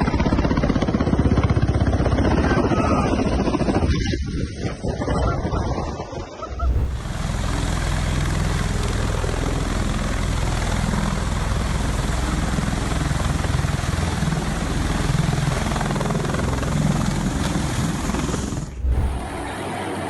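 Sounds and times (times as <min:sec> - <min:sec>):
helicopter rotor beating: 0:00.0 - 0:04.6, 0:06.5 - 0:20.0
helicopter engine noise: 0:00.0 - 0:05.1, 0:06.4 - 0:20.0.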